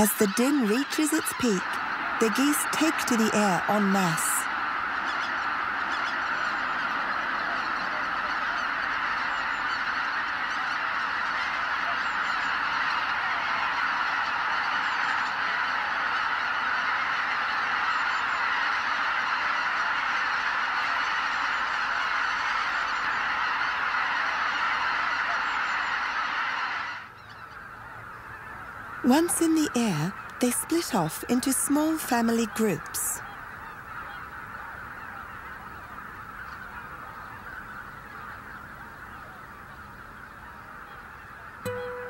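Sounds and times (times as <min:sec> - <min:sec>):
flock of geese honking: 0:00.0 - 0:42.0.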